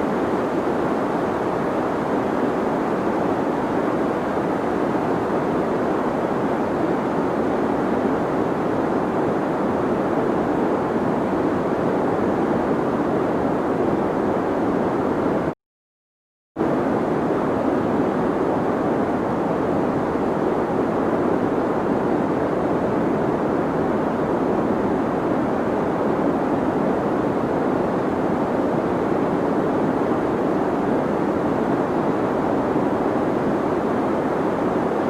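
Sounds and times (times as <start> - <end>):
deep white noise hiss: 0.0 - 15.5, 16.6 - 35.0.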